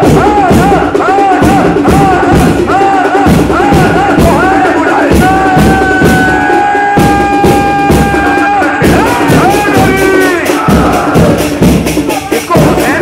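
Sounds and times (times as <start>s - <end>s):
crowd chanting over a beat: 0.0s - 13.0s.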